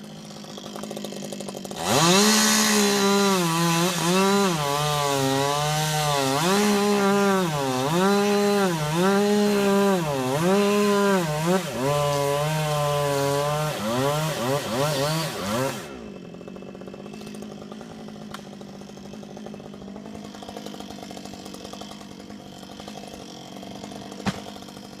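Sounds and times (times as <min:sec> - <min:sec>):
chainsaw cutting wood: 0:00.0 - 0:25.0
chainsaw idling: 0:00.0 - 0:25.0.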